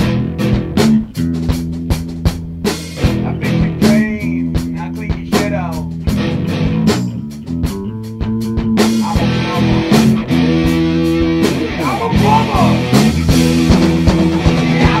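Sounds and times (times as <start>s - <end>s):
guitar with pitch bends: 0.0s - 15.0s
steady drum beat: 0.0s - 15.0s.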